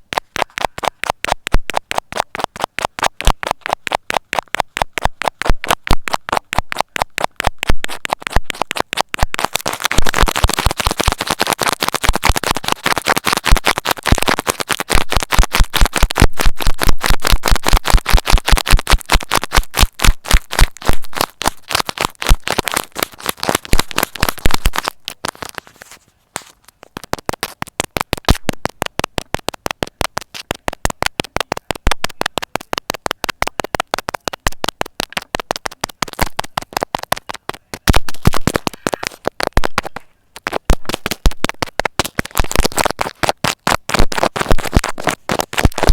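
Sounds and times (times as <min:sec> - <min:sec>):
needle clicking through material: 0:00.0 - 0:45.9.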